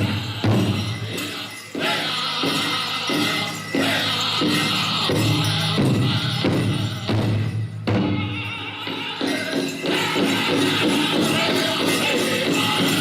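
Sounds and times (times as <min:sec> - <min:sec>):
men singing with instruments: 0:00.0 - 0:13.0.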